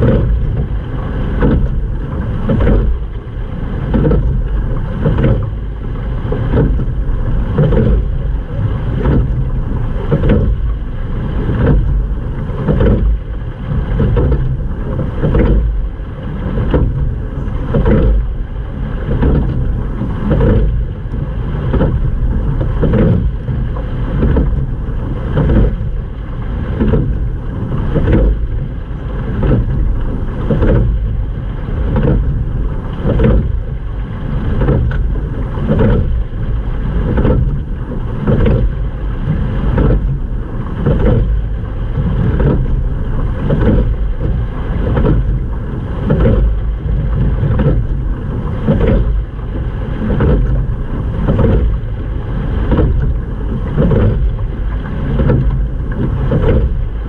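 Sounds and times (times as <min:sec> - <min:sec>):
rowing stroke knock and surge: 0:00.0 - 0:57.0
water rushing along boat hull: 0:00.0 - 0:57.0
wind rumble on microphone: 0:00.0 - 0:57.0.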